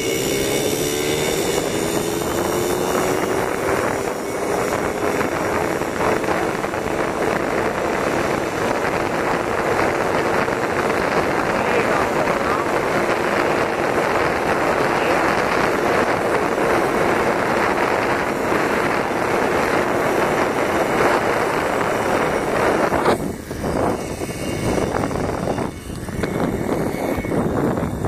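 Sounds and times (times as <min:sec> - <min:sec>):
moped engine running: 0:00.0 - 0:28.0
wind noise on microphone: 0:00.0 - 0:28.0.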